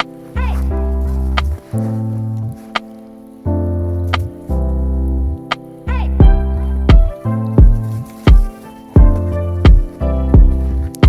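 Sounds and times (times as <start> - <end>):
background music with beat: 0.0 - 4.8, 5.4 - 11.0.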